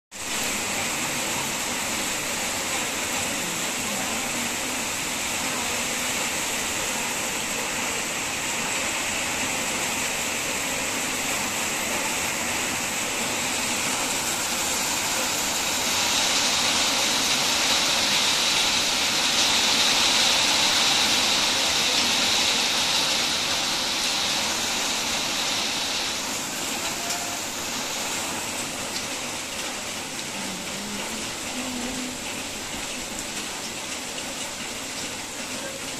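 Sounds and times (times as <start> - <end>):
heavy rain on a street: 0.1 - 35.9.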